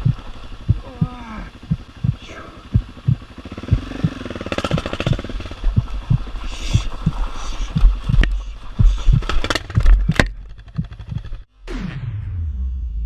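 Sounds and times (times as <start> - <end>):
motorcycle engine rumble: 0.0 - 11.5
motorcycle thudding over ruts: 0.0 - 11.5.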